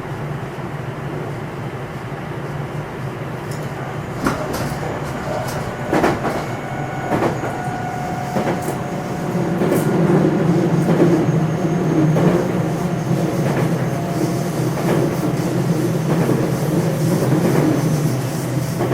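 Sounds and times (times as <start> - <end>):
electric train rumble: 0.0 - 18.9.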